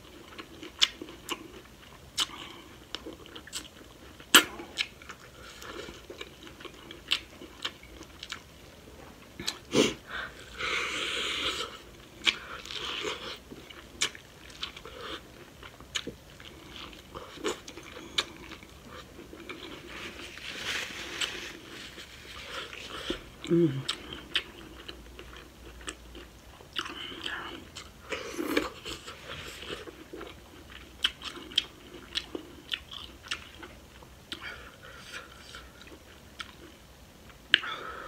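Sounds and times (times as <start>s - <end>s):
chewing with wet mouth clicks: 0.1s - 8.5s, 9.1s - 9.7s, 12.2s - 19.8s, 23.1s - 37.7s.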